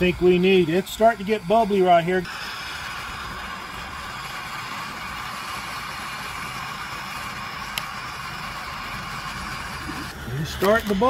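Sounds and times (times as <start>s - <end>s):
gas camping stove burning: 0.0s - 11.0s.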